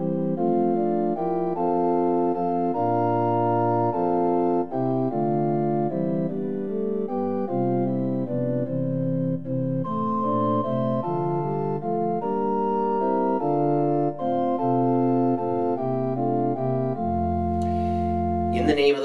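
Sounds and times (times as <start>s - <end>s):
organ music: 0.0s - 19.0s.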